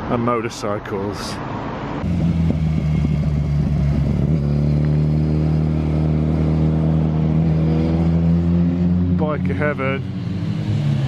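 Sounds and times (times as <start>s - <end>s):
motorcycles riding past: 2.0s - 11.0s.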